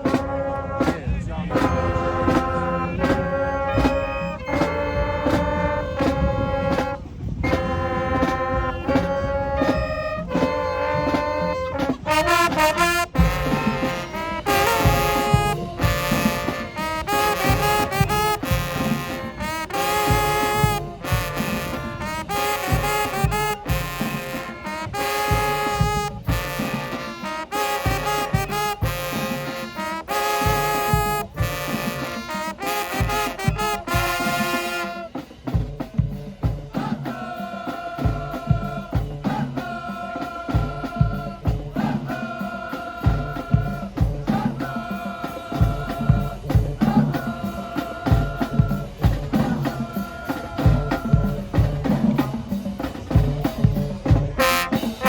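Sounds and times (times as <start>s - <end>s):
drums: 0.0s - 55.0s
marching band brass chords: 0.0s - 55.0s.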